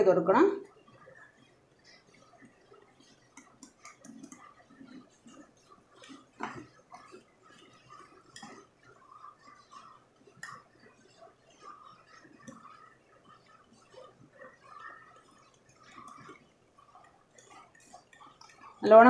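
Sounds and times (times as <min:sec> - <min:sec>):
wet batter squishing: 0:00.0 - 0:19.0
whisk wires clicking on glass: 0:00.6 - 0:18.8.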